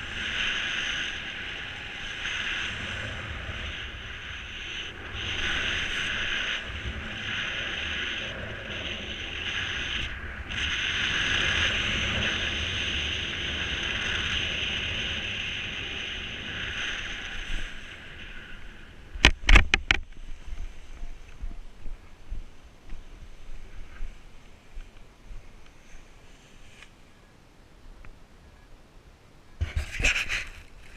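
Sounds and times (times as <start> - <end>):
wind rushing over microphone: 0.0 - 26.3.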